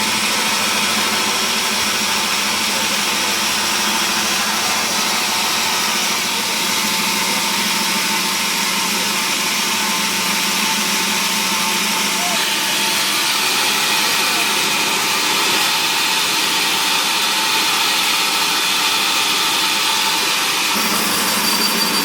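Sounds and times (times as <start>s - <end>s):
sawmill machinery whirring: 0.0s - 22.0s.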